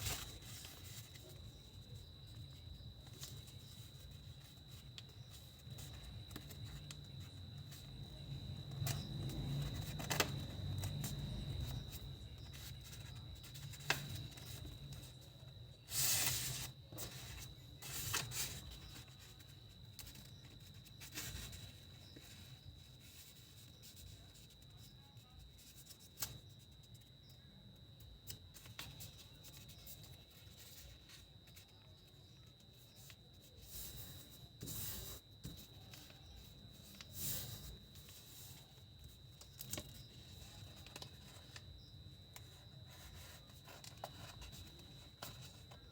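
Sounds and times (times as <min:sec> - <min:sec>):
paper rustling and crinkling: 0:00.0 - 0:26.8, 0:28.3 - 0:45.9
faint high whine: 0:00.0 - 0:45.9.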